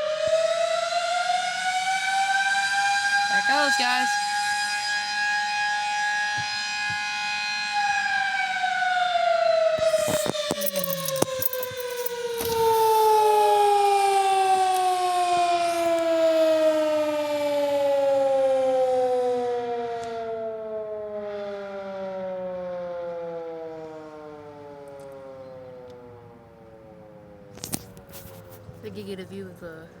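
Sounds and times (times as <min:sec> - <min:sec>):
warning siren winding down: 0:00.0 - 0:27.5.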